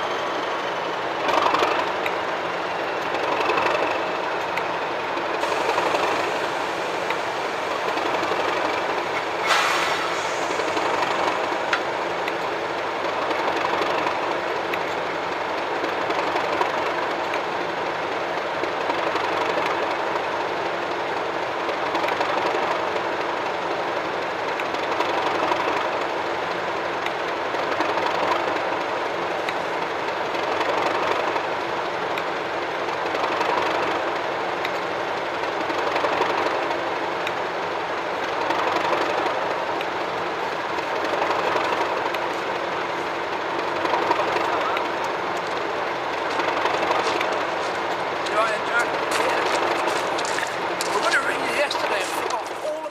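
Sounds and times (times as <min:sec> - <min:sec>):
diesel locomotive idling: 0:00.0 - 0:52.9.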